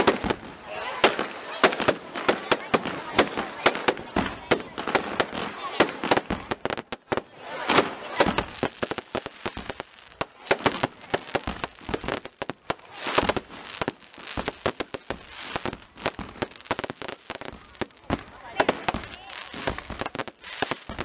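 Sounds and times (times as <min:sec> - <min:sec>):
firework rockets bursting: 0:00.0 - 0:21.0.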